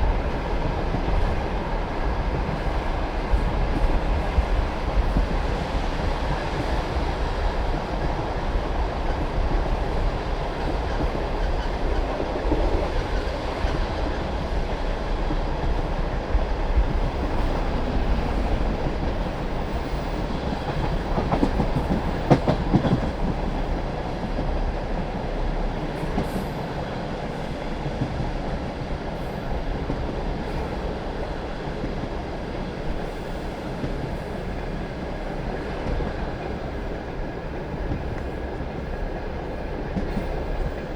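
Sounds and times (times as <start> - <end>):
train wheels clacking on rails: 0.0 - 40.9.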